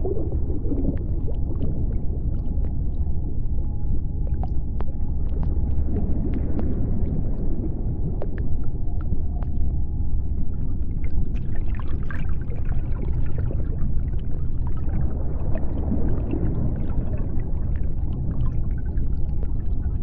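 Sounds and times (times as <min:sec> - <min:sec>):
deep underwater rumble: 0:00.0 - 0:20.0
small clicks and crackles: 0:00.0 - 0:20.0.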